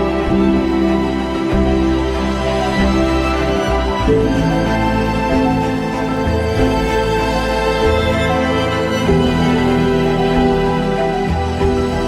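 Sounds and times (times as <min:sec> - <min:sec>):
slow sad soundtrack music: 0:00.0 - 0:12.0.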